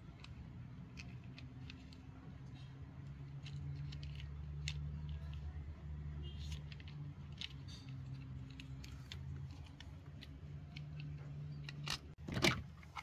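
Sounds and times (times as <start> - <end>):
plastic toy vehicles clicking: 0.0 - 13.0.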